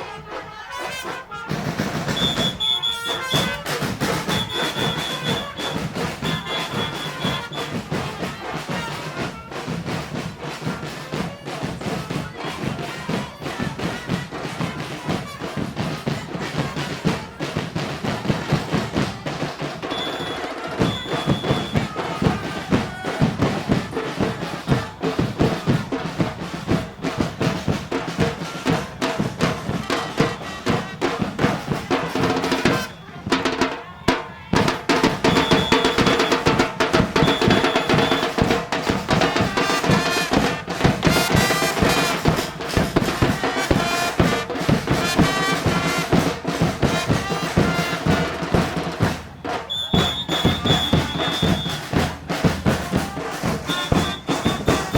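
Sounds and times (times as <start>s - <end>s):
bass drum and snare beat: 0.0s - 54.9s.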